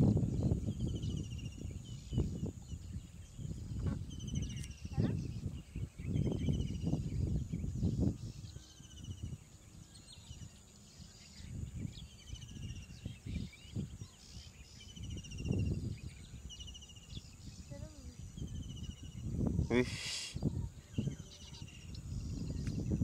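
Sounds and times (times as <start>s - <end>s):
high-pitched pulsed chirping trills: 0.0s - 19.7s
wind gusts on microphone: 0.0s - 23.0s.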